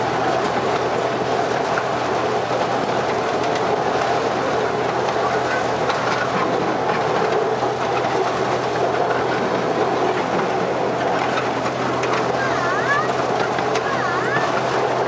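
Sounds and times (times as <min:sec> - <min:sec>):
miniature train running on track: 0:00.0 - 0:15.0.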